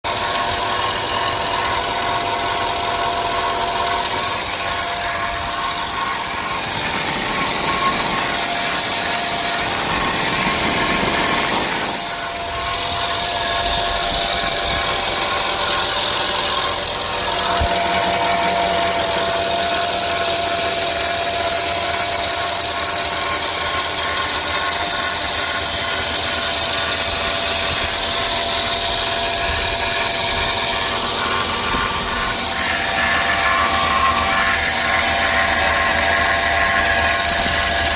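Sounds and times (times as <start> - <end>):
engine running with a whine: 0.0 - 37.9.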